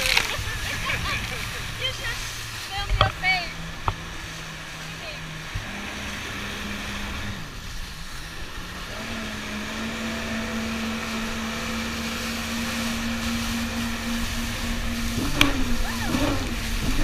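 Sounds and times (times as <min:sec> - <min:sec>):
jet ski engine running: 0:00.0 - 0:17.0
water spray hissing along hull: 0:00.0 - 0:17.0.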